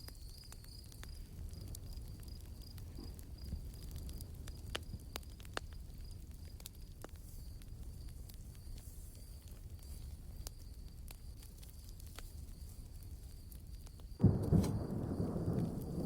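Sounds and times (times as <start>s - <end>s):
campfire crackling and popping: 0.0s - 16.0s
insect chirping: 0.0s - 16.0s
low rumble of fire: 0.0s - 16.0s.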